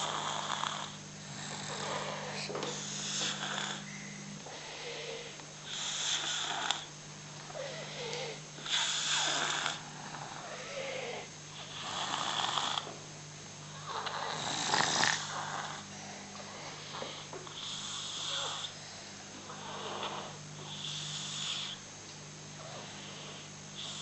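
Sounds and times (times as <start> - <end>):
baby snoring: 0.0 - 6.9, 7.5 - 12.9, 13.7 - 18.8, 19.5 - 21.8, 22.6 - 24.0
soft breaths: 0.0 - 12.3, 13.7 - 24.0.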